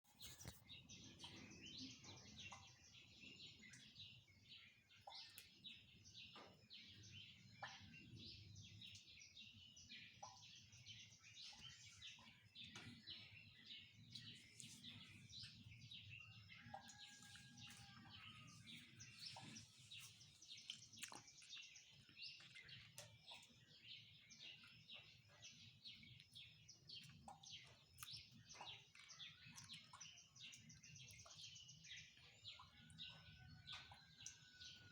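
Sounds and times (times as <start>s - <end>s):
many small birds chirping: 0.1s - 34.9s.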